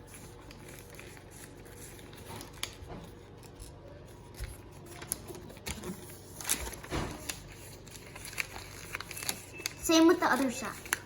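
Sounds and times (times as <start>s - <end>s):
paper rustling and crackling: 0.0s - 11.0s.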